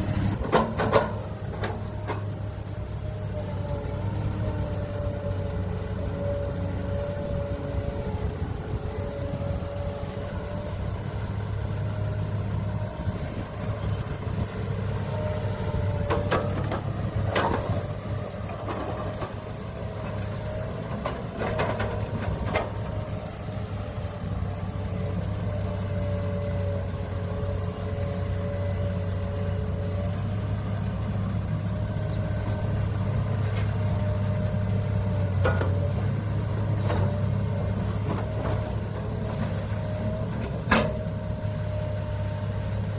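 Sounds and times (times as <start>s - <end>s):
diesel earthmoving machinery: 0.0s - 42.9s.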